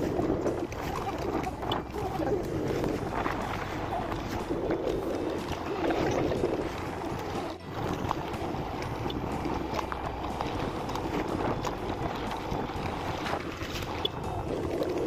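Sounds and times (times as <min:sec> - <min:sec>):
motorcycle engine running: 0:00.0 - 0:15.0
road noise: 0:00.0 - 0:15.0
wind on microphone: 0:00.0 - 0:15.0.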